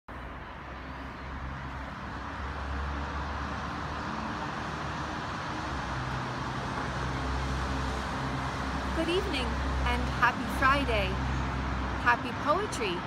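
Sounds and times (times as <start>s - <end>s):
passing cars: 0.1s - 13.0s.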